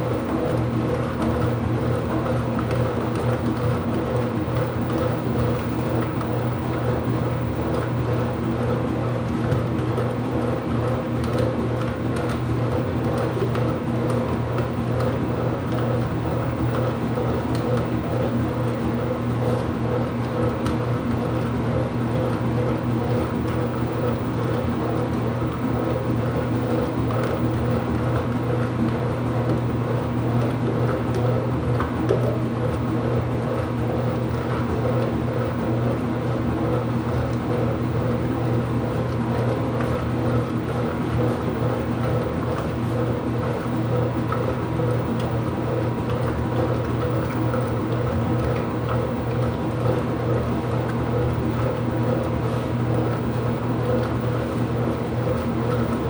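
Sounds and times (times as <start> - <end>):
washing machine humming: 0.0 - 56.0.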